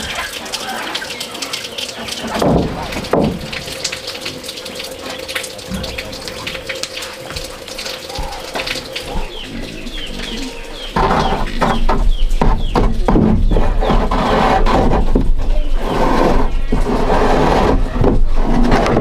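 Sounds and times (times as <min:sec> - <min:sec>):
birds chirping: 0:00.0 - 0:17.1
running water: 0:00.0 - 0:19.0.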